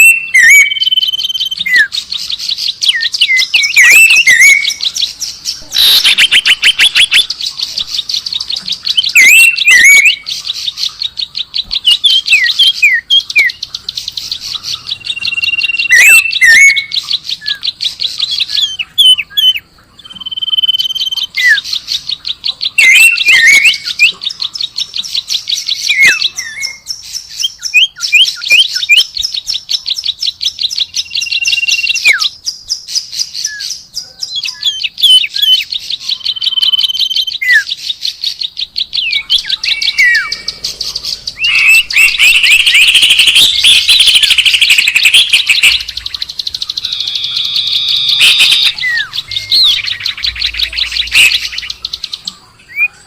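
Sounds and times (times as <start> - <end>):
songbird chattering and whistling: 0.0 - 53.0.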